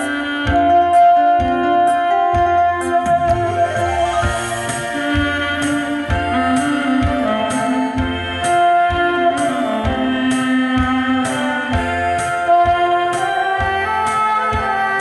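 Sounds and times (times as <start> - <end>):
keyboard backing track: 0.0 - 15.0
saxophone melody: 0.0 - 15.0
steady beat: 0.0 - 15.0.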